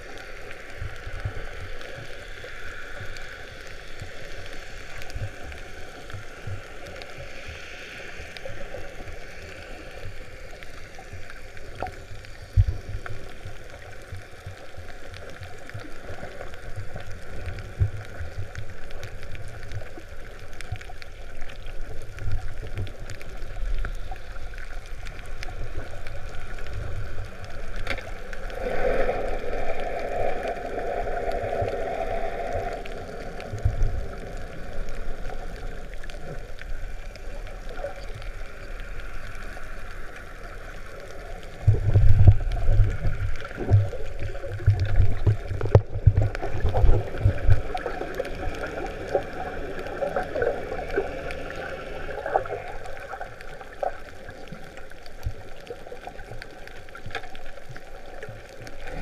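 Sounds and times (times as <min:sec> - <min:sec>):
muffled underwater sloshing: 0:00.0 - 0:59.0.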